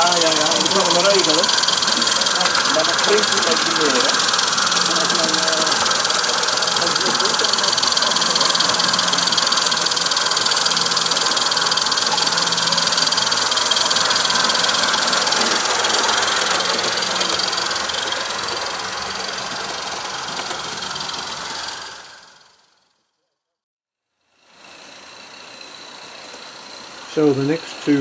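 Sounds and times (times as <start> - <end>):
steam locomotive hissing: 0.0 - 22.4, 24.5 - 28.0.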